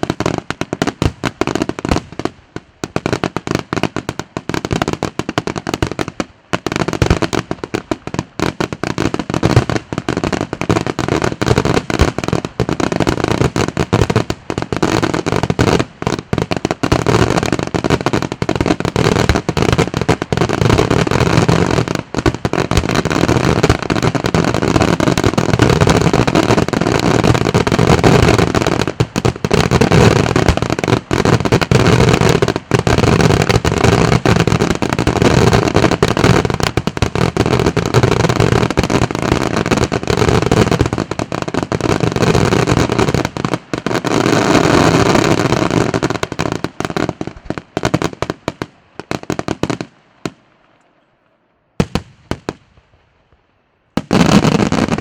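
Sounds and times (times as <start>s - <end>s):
fireworks bursts and crackling bangs: 0.0s - 55.0s.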